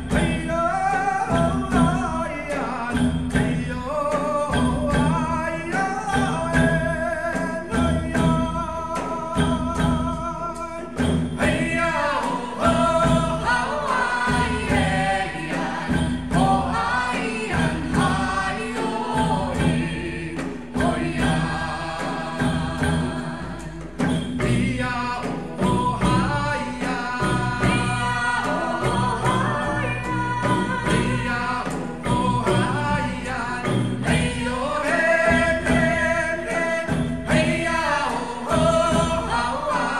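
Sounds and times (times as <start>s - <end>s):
band with steady drum beat: 0.0s - 39.9s
voices singing: 0.0s - 39.9s.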